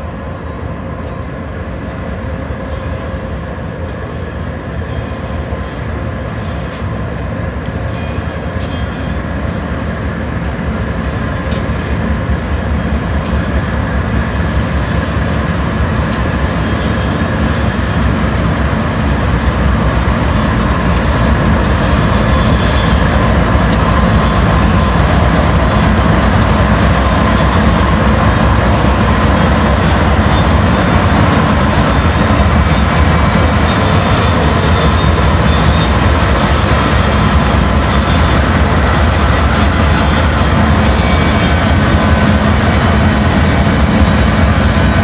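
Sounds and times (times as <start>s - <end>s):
freight train rumbling: 0.0s - 45.0s.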